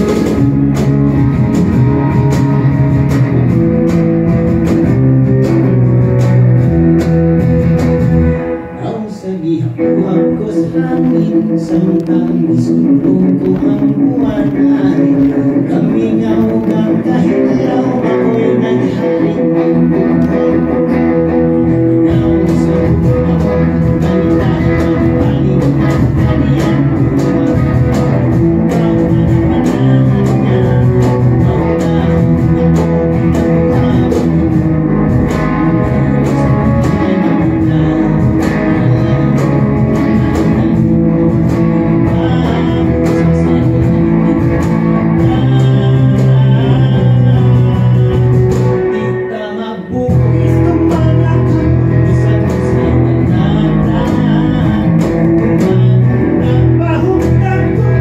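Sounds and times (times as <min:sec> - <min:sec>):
bass guitar line: 0:00.0 - 0:58.0
electric guitar playing: 0:00.0 - 0:58.0.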